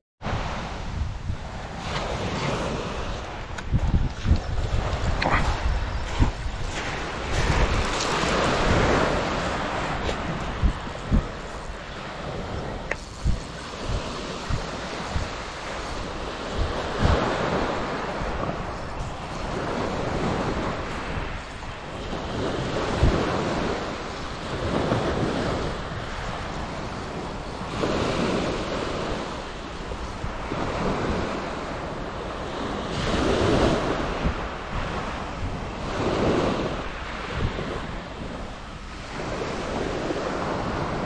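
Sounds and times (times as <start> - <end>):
wind buffeting microphone: 0.2 - 41.0
waves washing on shingle: 1.4 - 41.0.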